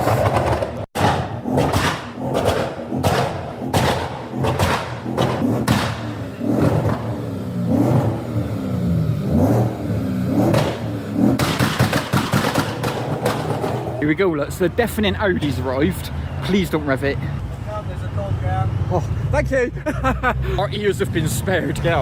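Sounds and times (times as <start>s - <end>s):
car engine revving: 0.0s - 22.0s
exhaust bangs: 0.0s - 22.0s.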